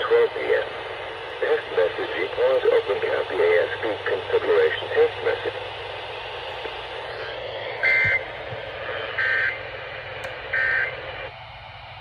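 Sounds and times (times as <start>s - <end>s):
radio static hiss: 0.0s - 11.3s.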